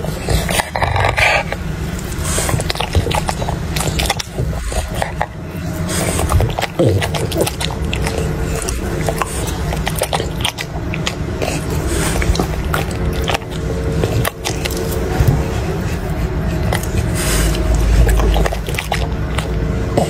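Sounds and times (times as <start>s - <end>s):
dog chewing food: 0.0s - 20.0s.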